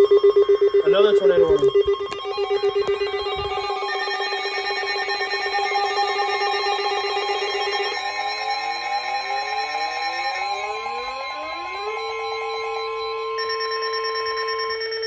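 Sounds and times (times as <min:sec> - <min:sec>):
electronic emergency alert tone: 0:00.0 - 0:15.0.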